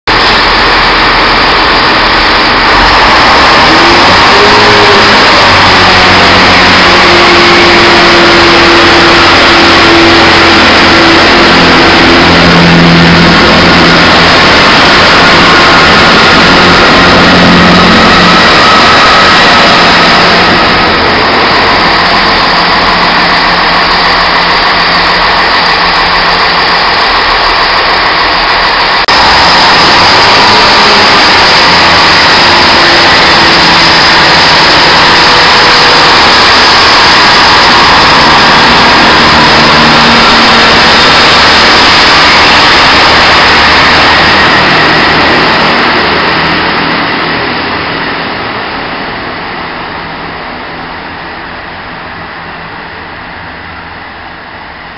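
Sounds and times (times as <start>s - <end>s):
diesel train engines running: 0.0s - 54.9s.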